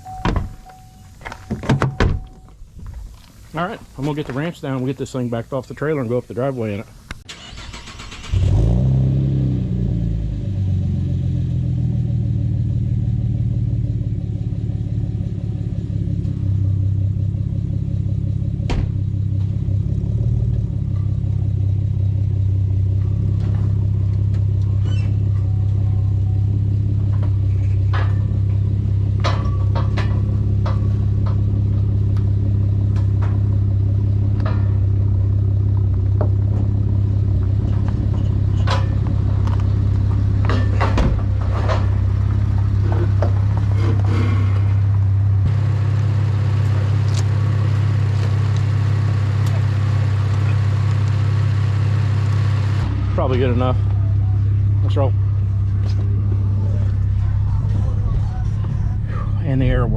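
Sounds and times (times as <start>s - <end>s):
car engine starting and idling: 0.0s - 59.9s.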